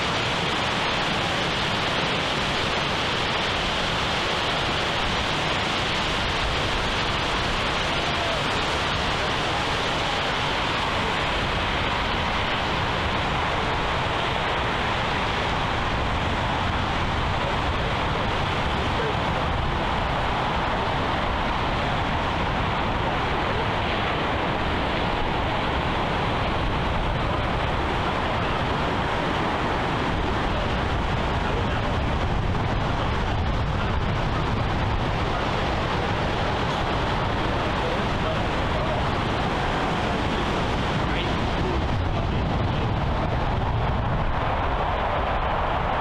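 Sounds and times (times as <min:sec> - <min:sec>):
surf on rocky shore: 0:00.0 - 0:46.0
wind: 0:00.0 - 0:46.0.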